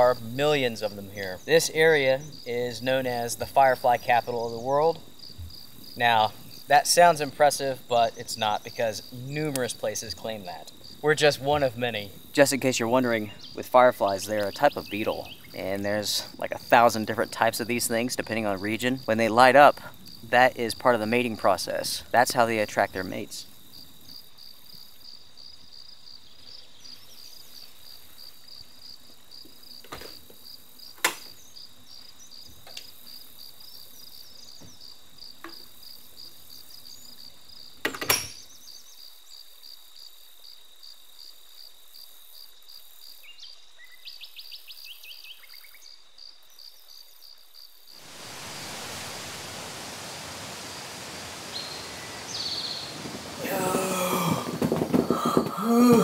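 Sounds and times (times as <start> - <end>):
night insects chirping: 0.0 - 56.0
outdoor noise hiss: 0.0 - 56.0.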